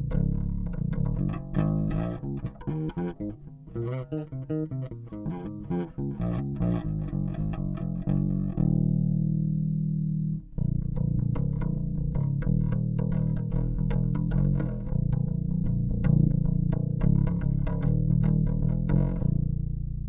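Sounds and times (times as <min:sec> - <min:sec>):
electric bass plucked notes: 0:00.0 - 0:20.0.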